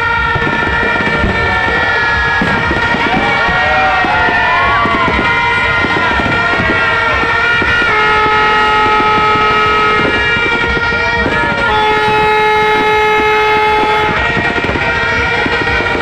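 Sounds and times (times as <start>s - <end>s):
fireworks crackling and banging: 0.0s - 16.0s
horn blasts: 0.0s - 16.0s.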